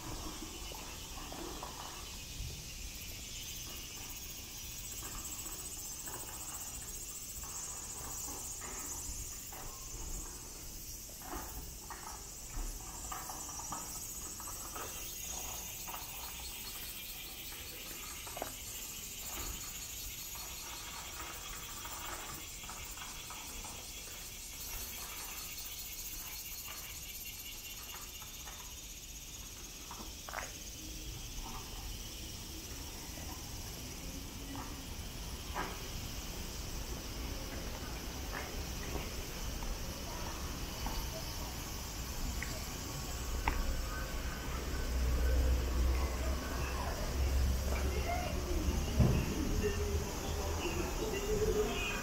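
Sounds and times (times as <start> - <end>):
insects trilling: 0.0 - 52.0.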